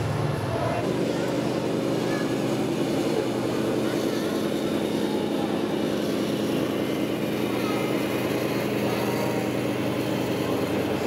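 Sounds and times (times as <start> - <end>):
model truck motor droning: 0.0 - 11.0.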